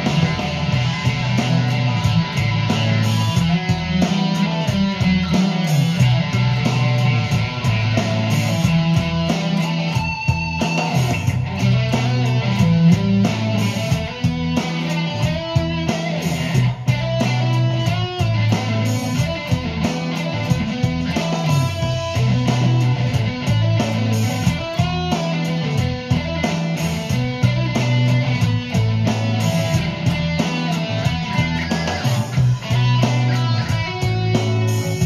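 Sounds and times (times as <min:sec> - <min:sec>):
backing track beat: 0:00.0 - 0:35.0
electric guitar: 0:00.0 - 0:35.0
low bass line: 0:00.0 - 0:35.0.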